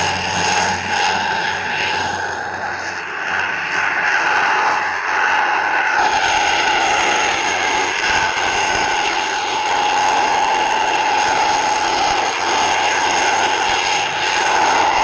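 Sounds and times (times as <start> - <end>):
underwater machine drone: 0.0 - 15.0.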